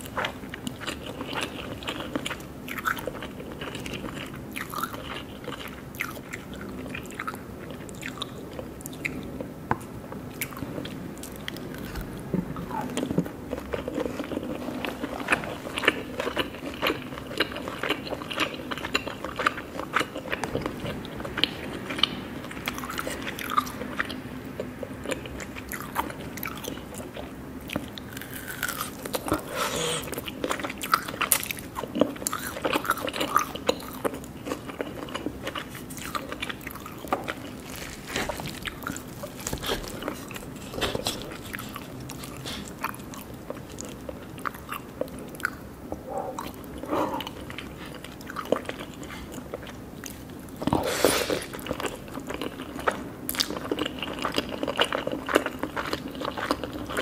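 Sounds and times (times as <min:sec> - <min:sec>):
crunching and chewing: 0:00.0 - 0:57.0
faint low hum: 0:00.0 - 0:57.0.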